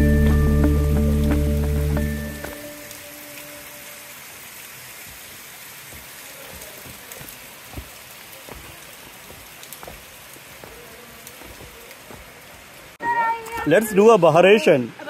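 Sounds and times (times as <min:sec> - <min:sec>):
rushing splashing water: 0:00.6 - 0:15.0.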